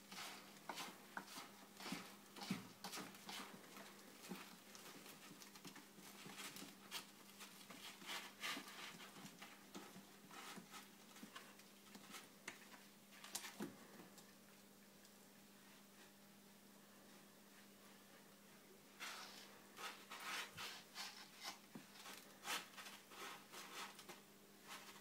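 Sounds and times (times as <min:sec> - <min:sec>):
kittens scuffling on fabric: 0:00.1 - 0:14.3, 0:17.1 - 0:25.0.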